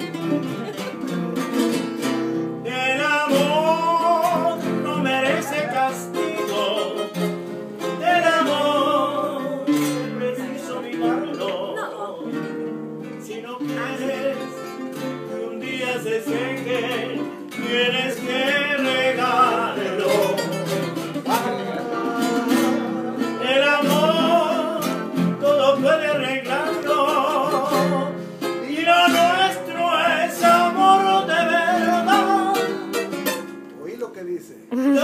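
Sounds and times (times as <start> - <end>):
acoustic guitars strumming: 0.0 - 35.0
man singing: 2.2 - 33.1, 34.7 - 35.0.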